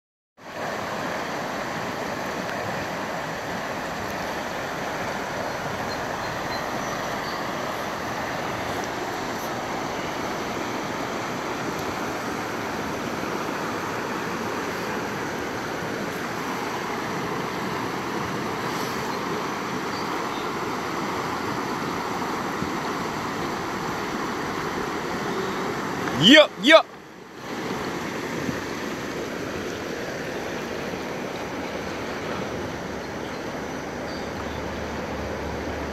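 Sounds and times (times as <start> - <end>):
water rushing over rocks: 0.4 - 35.9.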